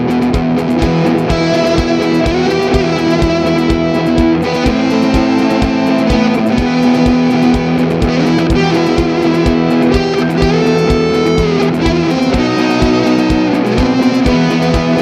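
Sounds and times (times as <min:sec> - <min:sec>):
steady beat: 0:00.0 - 0:15.0
sustained guitar-like notes: 0:00.0 - 0:15.0.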